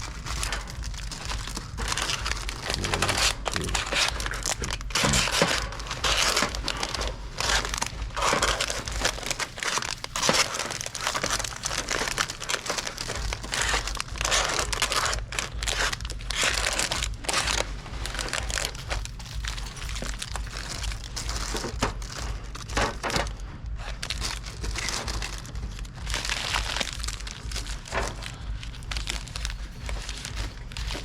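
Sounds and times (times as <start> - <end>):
low steady hum: 0.0 - 31.0
plastic packaging crinkling: 0.0 - 31.0.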